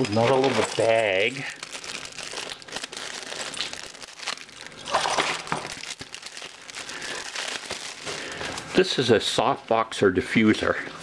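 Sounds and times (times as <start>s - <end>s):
packaging bag crinkling: 0.0s - 9.4s.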